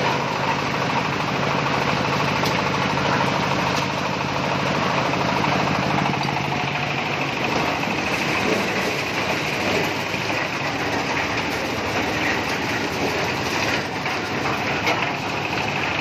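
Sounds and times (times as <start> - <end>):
corn sheller mechanical clatter: 0.0 - 16.0.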